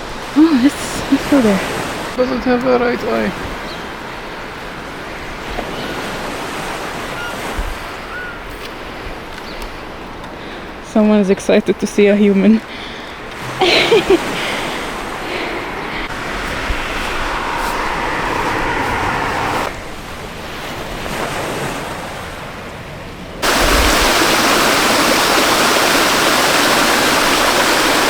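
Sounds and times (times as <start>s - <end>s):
rushing water: 0.0s - 11.2s, 11.9s - 28.0s.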